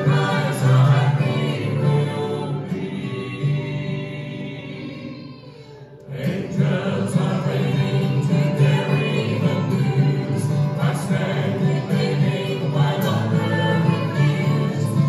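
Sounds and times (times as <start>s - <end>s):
acoustic guitar: 0.0s - 15.0s
vocal group singing in harmony: 0.0s - 15.0s.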